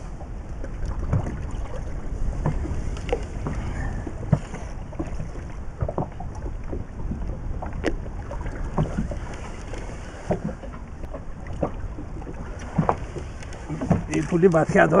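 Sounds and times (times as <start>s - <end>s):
water moving around boat: 0.0s - 15.0s.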